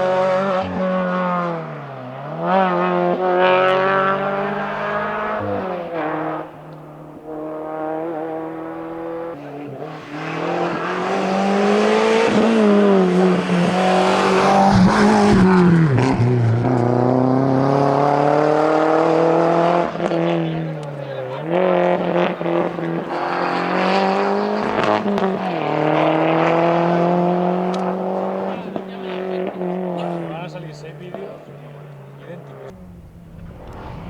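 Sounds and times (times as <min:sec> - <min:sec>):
rally car engines at full throttle: 0:00.0 - 0:34.0.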